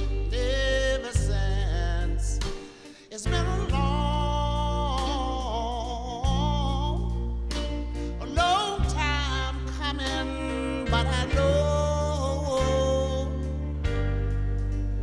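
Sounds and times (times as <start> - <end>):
live band bass and chords: 0.0 - 15.0
man singing soul ballad: 0.0 - 15.0.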